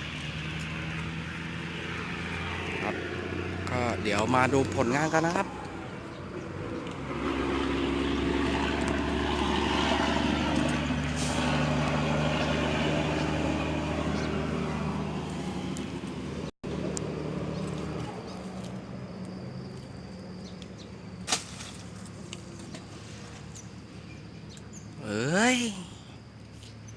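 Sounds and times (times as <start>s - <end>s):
engine passing by: 0.0s - 26.0s.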